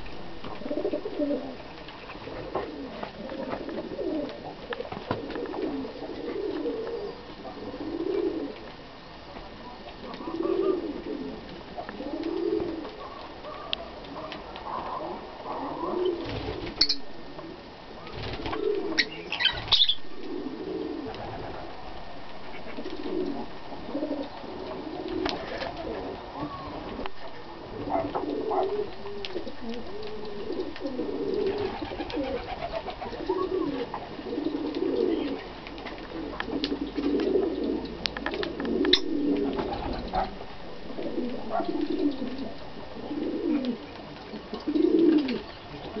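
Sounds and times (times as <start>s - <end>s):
dove-like cooing: 0.0s - 8.7s, 9.6s - 46.0s.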